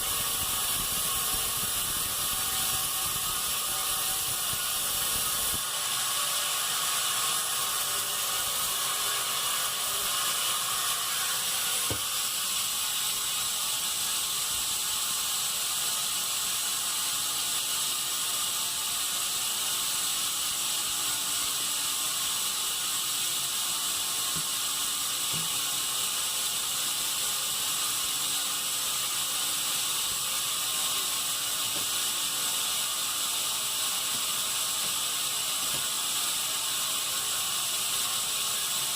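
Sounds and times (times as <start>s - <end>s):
bandsaw running: 0.0s - 38.9s.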